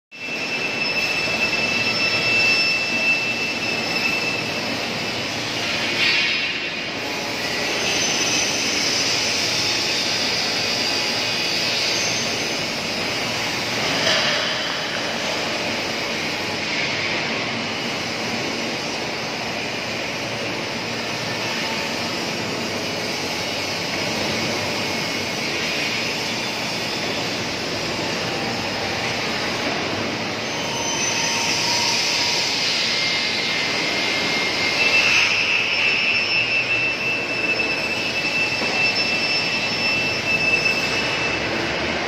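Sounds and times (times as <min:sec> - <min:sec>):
factory machinery roar: 0:00.2 - 0:42.0
thin high whines: 0:00.2 - 0:42.0.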